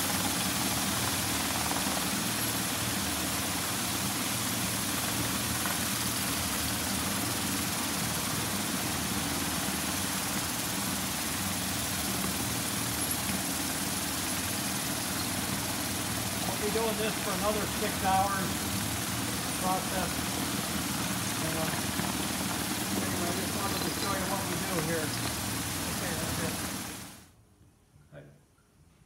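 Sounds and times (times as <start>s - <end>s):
vibratory bowl humming: 0.0s - 27.2s
ceramic media churning hiss: 0.0s - 27.3s.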